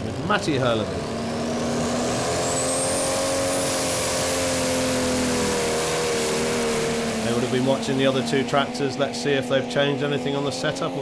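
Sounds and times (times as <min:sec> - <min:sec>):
tractor diesel engine at full throttle: 0:00.0 - 0:11.0.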